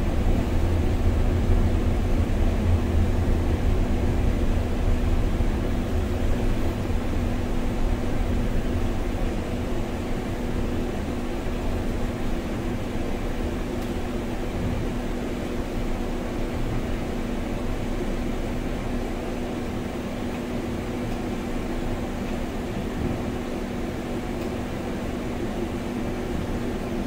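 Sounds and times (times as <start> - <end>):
bus engine rumble: 0.0 - 27.0
steady hum: 0.0 - 27.0.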